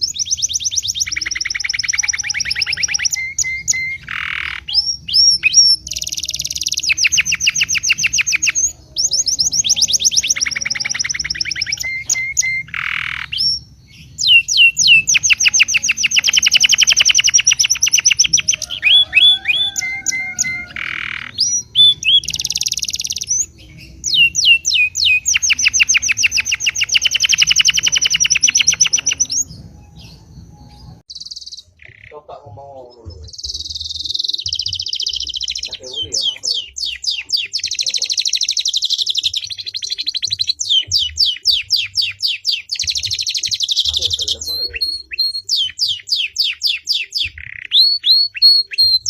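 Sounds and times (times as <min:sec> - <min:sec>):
songbirds trilling and whistling: 0:00.0 - 0:49.0.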